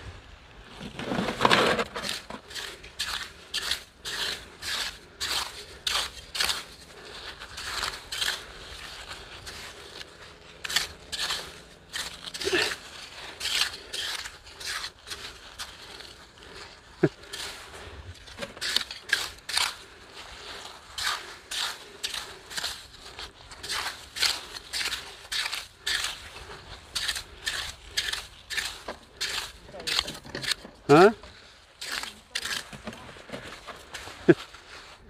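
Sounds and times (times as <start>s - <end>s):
metal rake scraping wet sand: 0.8s - 31.1s, 31.7s - 33.0s.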